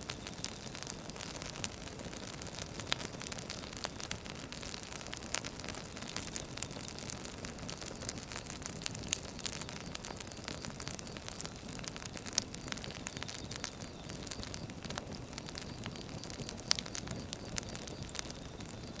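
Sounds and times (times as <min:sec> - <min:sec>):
firewood burning and crackling: 0:00.0 - 0:19.0.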